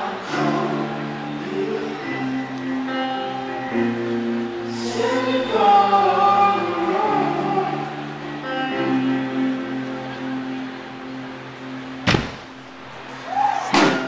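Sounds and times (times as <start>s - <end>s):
voices singing slow melody: 0.0s - 12.0s
guitar chords: 0.0s - 13.2s.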